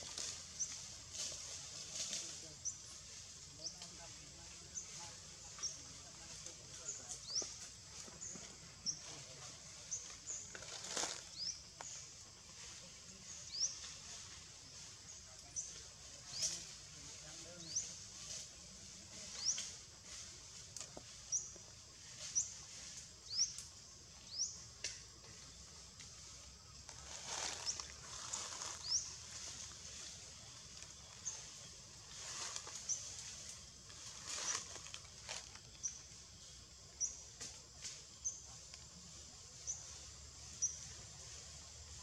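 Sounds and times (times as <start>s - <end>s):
soft outdoor hiss: 0.0s - 42.0s.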